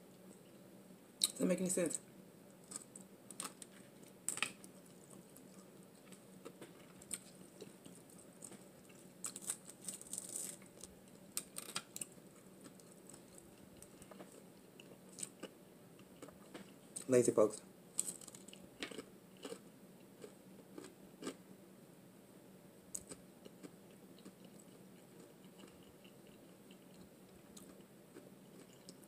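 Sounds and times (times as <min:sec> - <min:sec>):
crunchy chewing: 0:02.5 - 0:17.1, 0:17.9 - 0:21.4, 0:22.9 - 0:29.0.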